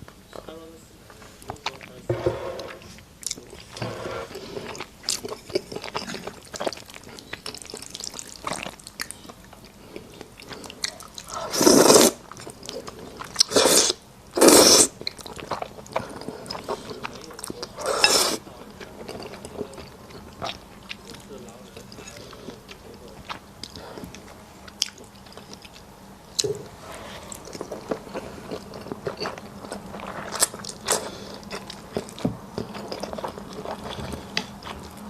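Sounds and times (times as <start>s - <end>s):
chewing: 2.6s - 35.0s.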